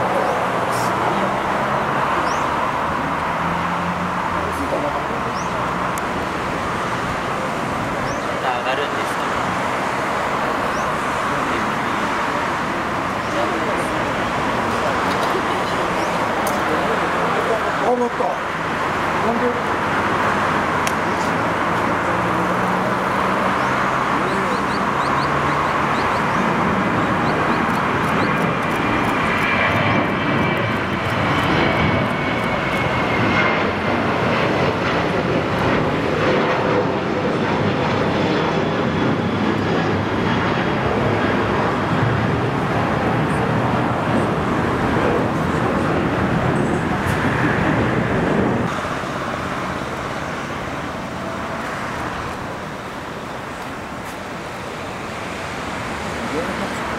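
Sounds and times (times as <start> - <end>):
jet engines roaring: 0.0 - 56.9.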